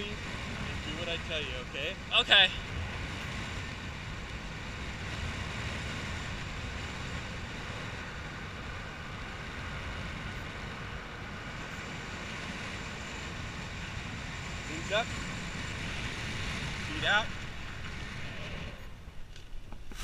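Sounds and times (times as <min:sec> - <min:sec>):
wind rushing on microphone: 0:00.0 - 0:20.0.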